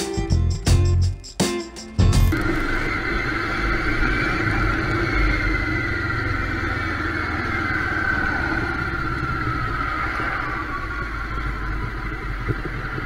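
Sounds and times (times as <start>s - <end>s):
motorcycle engine running: 2.0s - 13.0s.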